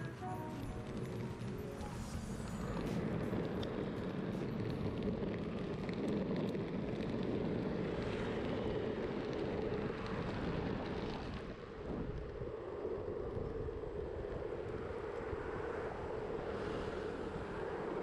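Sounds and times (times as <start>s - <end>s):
longboard wheels rolling: 0.0s - 17.9s
wind rush: 0.0s - 18.0s.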